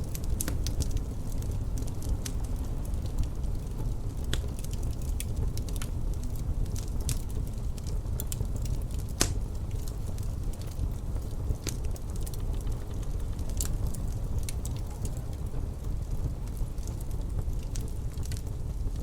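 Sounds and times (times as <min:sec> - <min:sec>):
low rumble of wind: 0:00.0 - 0:19.0
wood fire crackling: 0:00.0 - 0:19.0.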